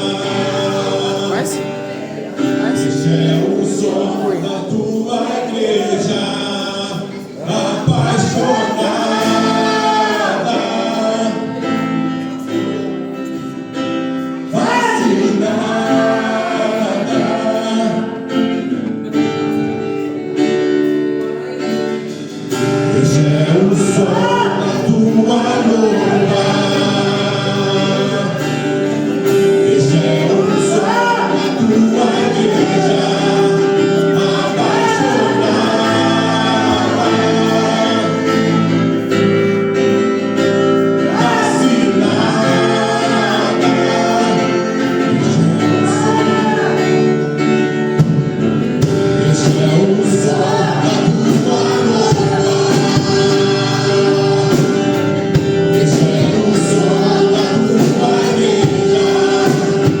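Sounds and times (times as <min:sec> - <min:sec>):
band chords: 0:00.0 - 1:00.0
choir singing gospel song: 0:00.0 - 1:00.0.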